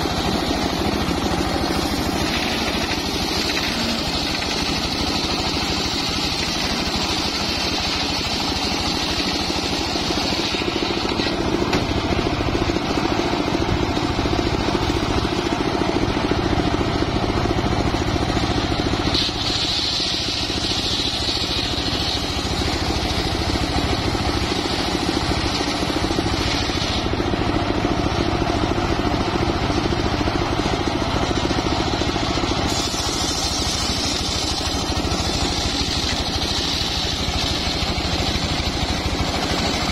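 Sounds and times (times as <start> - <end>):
engine drone: 0.0 - 39.9
saw blade whine: 0.0 - 39.9.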